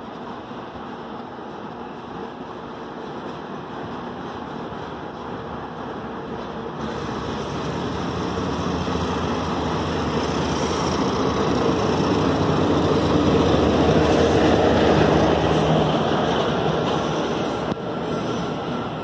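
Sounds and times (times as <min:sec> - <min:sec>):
diesel locomotive engine: 0:00.0 - 0:19.0
train wheels rumbling: 0:00.0 - 0:19.0.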